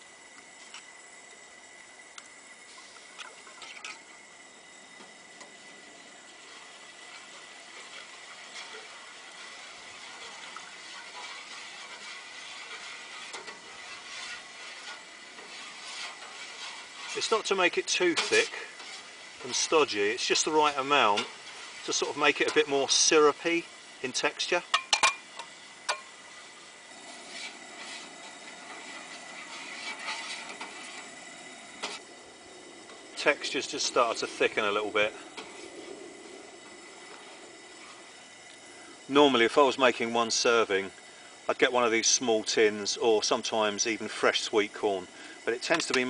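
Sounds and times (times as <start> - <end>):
camp stove burner hissing: 0.0 - 46.0
soup simmering in a pot: 0.0 - 46.0
faint stirring scrapes: 1.9 - 46.0.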